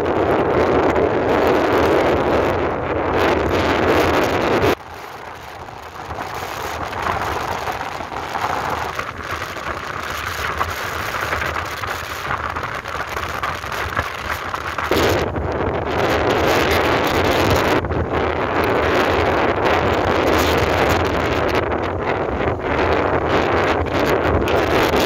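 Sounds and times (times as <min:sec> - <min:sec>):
wind buffeting microphone: 0:00.0 - 0:25.0
rushing road noise hiss: 0:00.8 - 0:25.0.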